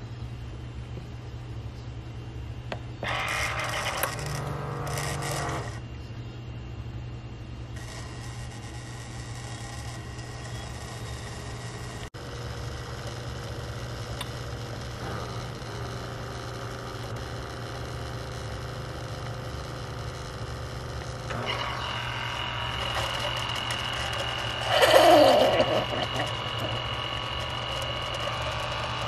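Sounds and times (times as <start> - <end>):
coffee maker pump humming: 2.6 - 6.1, 6.8 - 29.0
high whine and hiss: 2.6 - 29.0.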